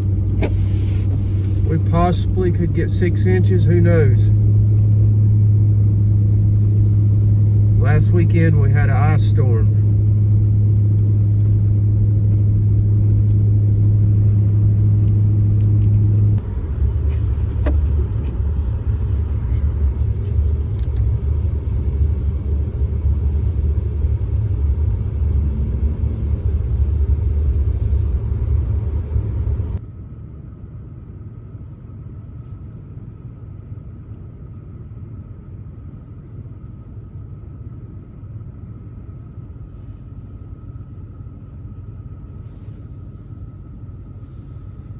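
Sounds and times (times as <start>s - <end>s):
motor vehicle rumble: 0.0s - 44.9s.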